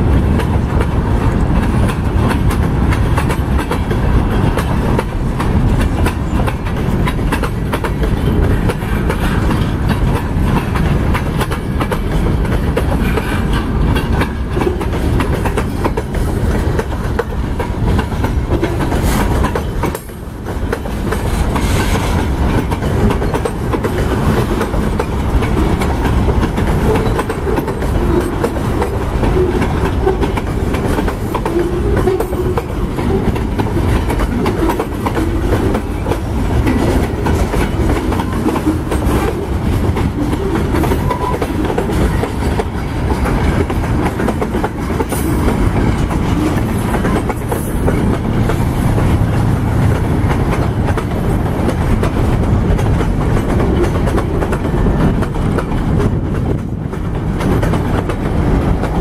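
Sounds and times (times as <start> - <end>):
steel wheels rumbling on rails: 0.0 - 59.0
wheels clacking over rail joints: 0.0 - 59.0.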